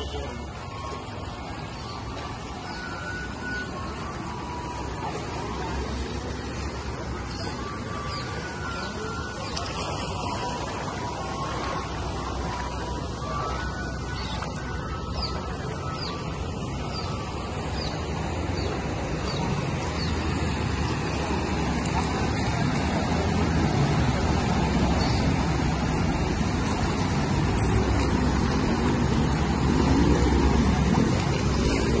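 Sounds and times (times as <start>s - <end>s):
floodwater rushing: 0.0s - 32.0s
vehicle engines: 0.0s - 32.0s.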